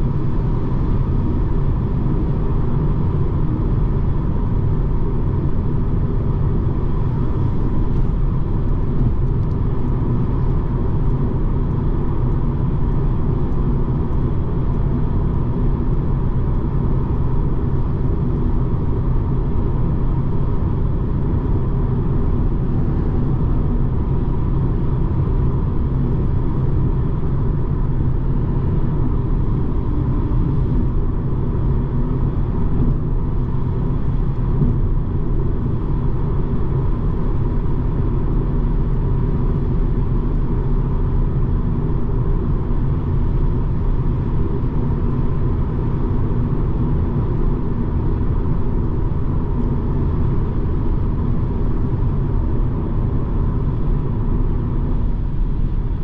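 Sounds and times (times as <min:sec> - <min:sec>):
car driving road noise: 0:00.0 - 0:56.0.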